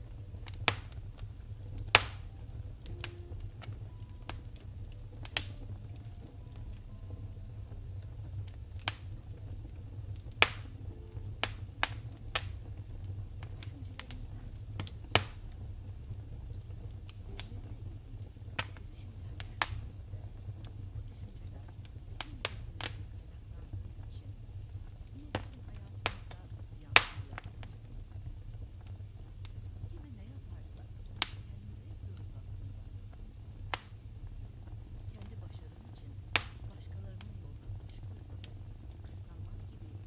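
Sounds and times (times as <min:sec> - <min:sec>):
sharp pops of fire: 0:00.0 - 0:40.0
steady low rumble: 0:00.0 - 0:40.0
wood fire crackling: 0:00.0 - 0:40.0.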